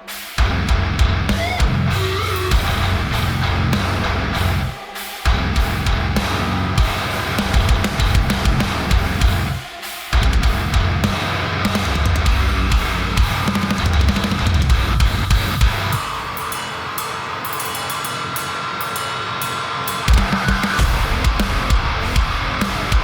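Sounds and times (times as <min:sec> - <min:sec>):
distorted guitars: 0:00.0 - 0:23.0
drum kit with cymbals: 0:00.0 - 0:23.0.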